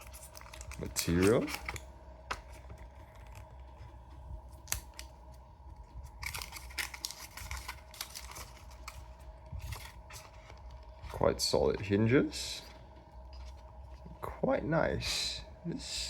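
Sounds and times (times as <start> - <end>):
plastic packaging rustling: 0.0 - 14.2.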